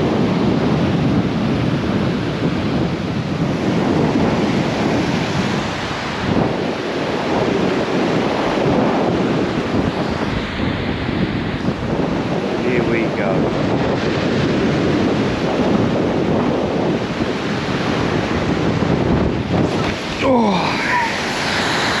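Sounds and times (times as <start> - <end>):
surf breaking on shore: 0.0 - 22.0
wind blowing across microphone: 0.0 - 22.0.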